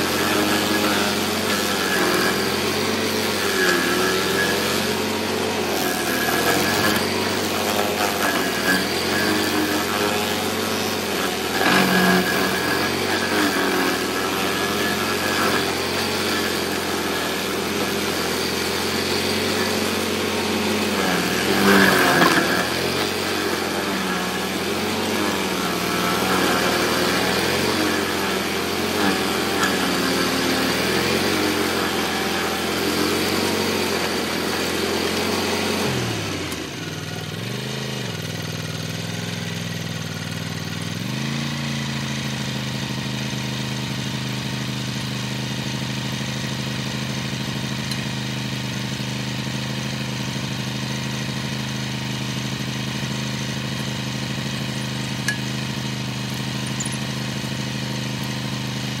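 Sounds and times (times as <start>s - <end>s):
cutter wheel grinding stump: 0.0s - 59.0s
petrol engine running: 0.0s - 59.0s.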